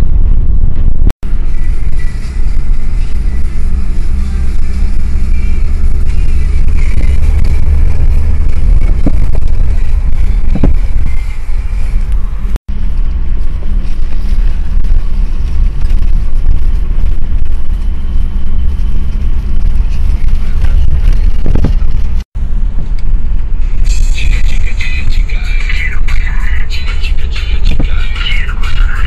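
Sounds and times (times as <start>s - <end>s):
car engine hum: 0.0s - 29.0s
tyres rumbling on snowy track: 0.0s - 29.0s.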